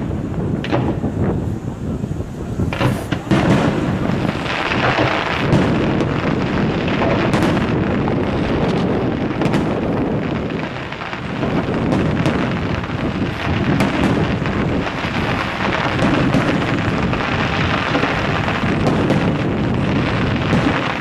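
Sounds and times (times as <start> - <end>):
firework bangs and crackles: 0.0 - 21.0
fireworks bursting rumble: 0.0 - 21.0.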